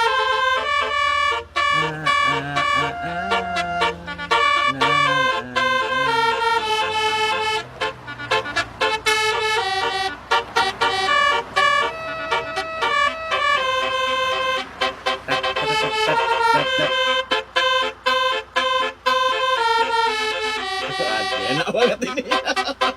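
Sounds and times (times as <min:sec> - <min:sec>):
multi-tone horn playing a tune: 0:00.0 - 0:22.9.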